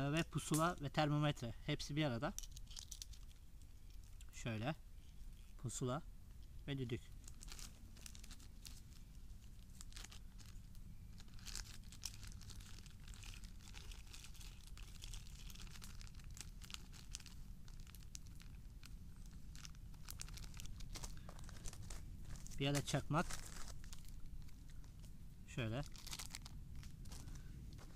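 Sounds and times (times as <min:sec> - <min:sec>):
plastic bag crinkling: 0:02.3 - 0:04.2, 0:07.0 - 0:27.9.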